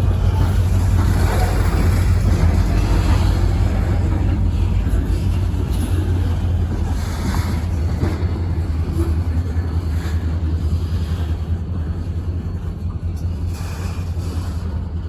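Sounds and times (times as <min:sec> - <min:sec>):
diesel locomotive engines rumbling: 0:00.0 - 0:15.0.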